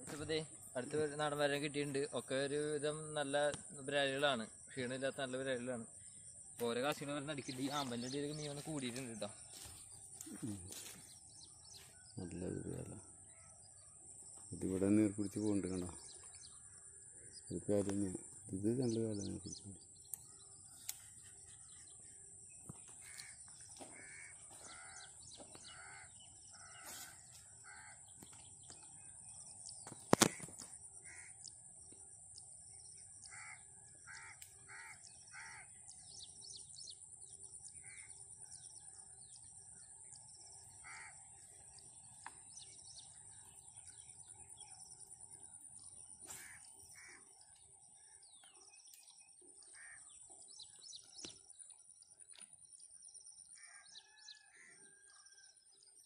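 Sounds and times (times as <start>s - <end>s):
birds calling: 0.0s - 55.4s.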